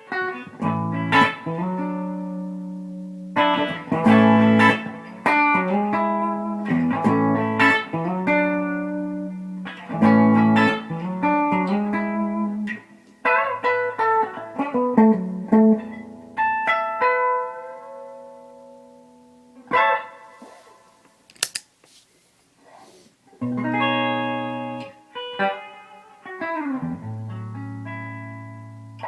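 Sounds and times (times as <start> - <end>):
clean electric guitar riff: 0.0 - 18.4, 23.4 - 29.0.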